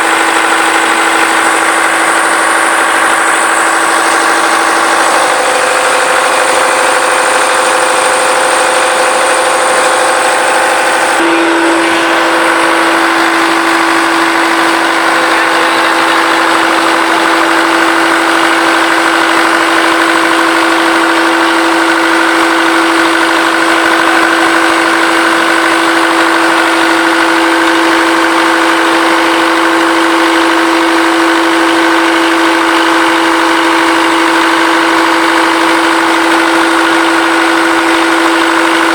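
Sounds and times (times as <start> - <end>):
diesel engine running: 0.0 - 38.9
steady whine: 0.0 - 38.9.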